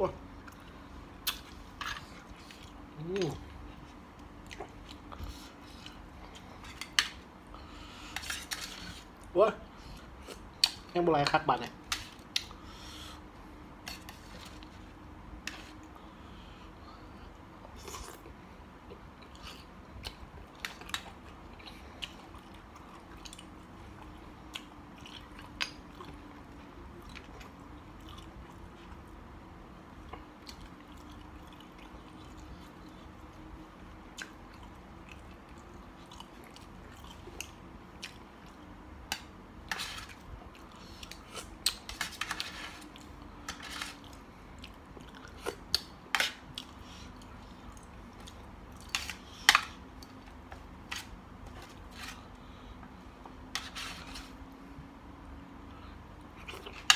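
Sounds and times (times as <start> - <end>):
person chewing food: 0.4 - 9.3, 12.0 - 29.2, 29.9 - 54.2.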